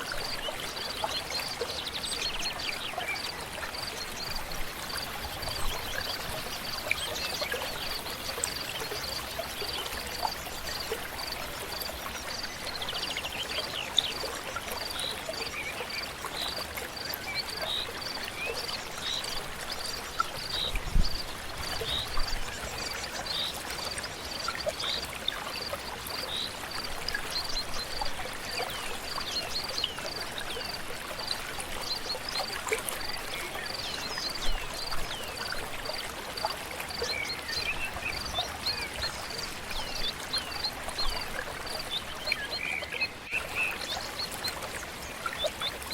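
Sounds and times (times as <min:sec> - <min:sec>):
river flowing: 0:00.0 - 0:45.9.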